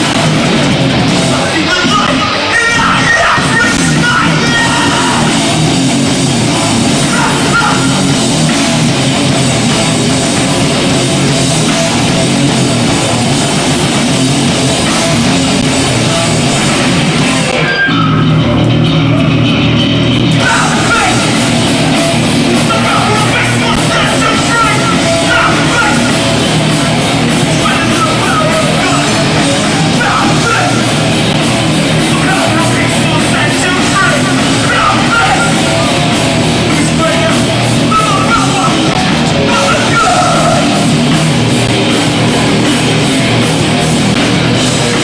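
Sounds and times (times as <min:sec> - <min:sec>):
punk band playing live: 0:00.0 - 0:45.0.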